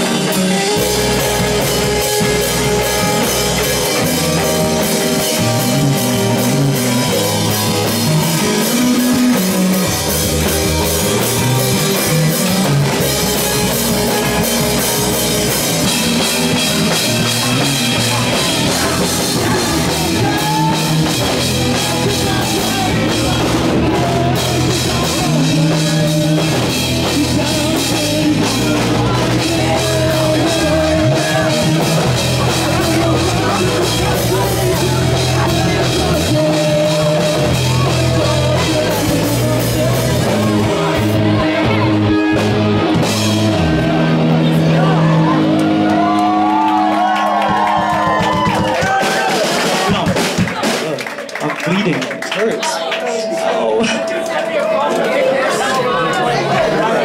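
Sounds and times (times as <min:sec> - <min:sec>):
drum kit: 0:00.0 - 0:54.4
electric guitar: 0:00.0 - 0:57.0.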